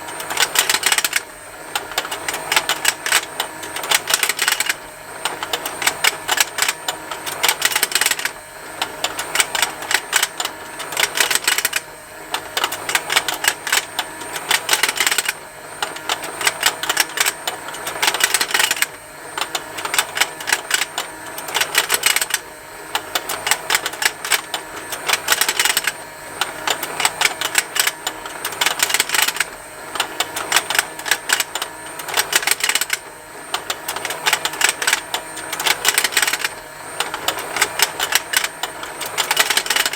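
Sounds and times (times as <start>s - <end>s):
toy motor plastic ticking: 0.1s - 39.9s.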